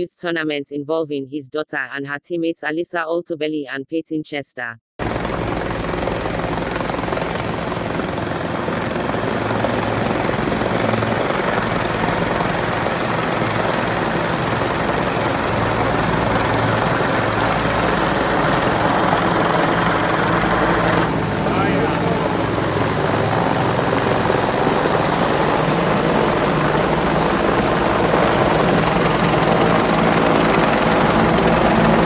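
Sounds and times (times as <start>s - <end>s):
helicopter flying: 5.0s - 32.0s.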